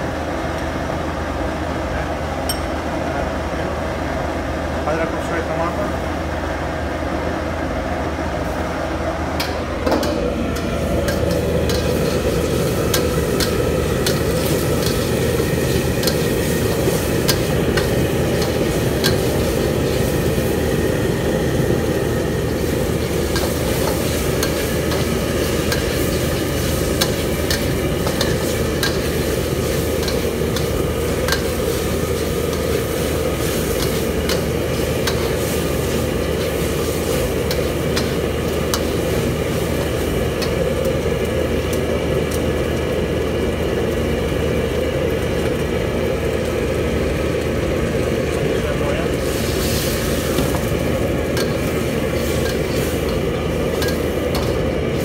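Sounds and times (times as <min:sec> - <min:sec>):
food sizzling in a wok: 0:09.7 - 0:55.0.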